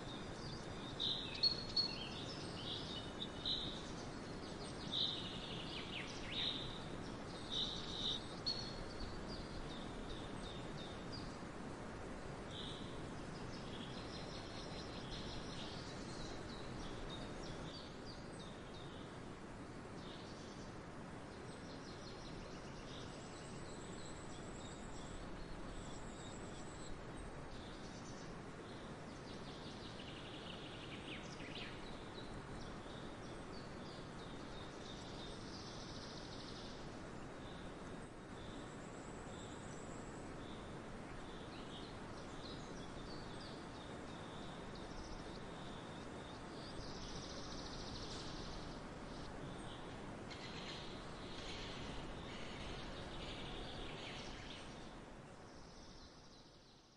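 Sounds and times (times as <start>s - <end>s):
outdoor hiss: 0.0s - 56.6s
small birds chirping: 0.0s - 56.9s.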